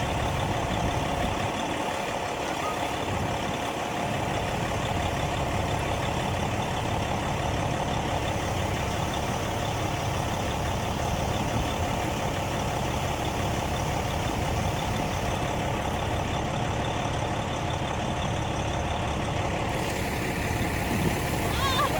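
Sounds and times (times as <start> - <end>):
fire truck engine idling: 0.0 - 21.9.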